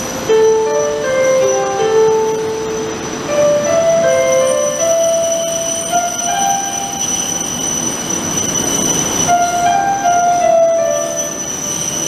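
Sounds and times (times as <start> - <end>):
train bogies rumbling: 0.0 - 12.0
train wheels squealing: 0.0 - 12.0.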